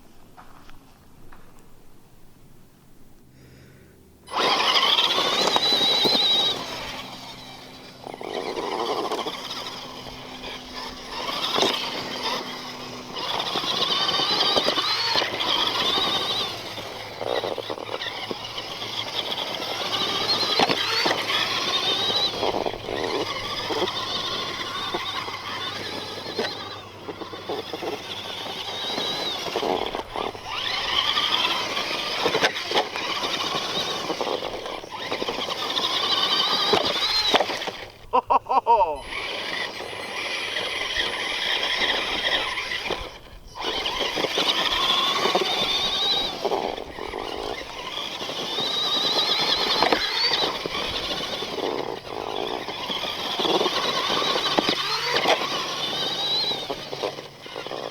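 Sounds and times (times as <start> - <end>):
toy truck motor whining: 3.4 - 57.9
tyre noise: 3.4 - 57.9.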